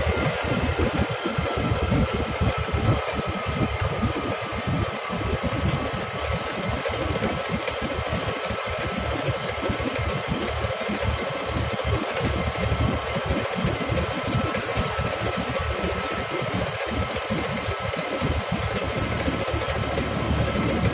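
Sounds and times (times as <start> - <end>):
engine running steadily: 0.0 - 20.9
thin steady whine: 0.0 - 20.9.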